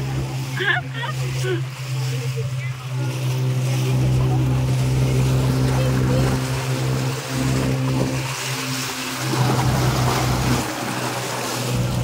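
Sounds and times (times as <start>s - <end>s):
boat motor droning: 0.0s - 12.0s
water splashing along hull: 0.0s - 12.0s.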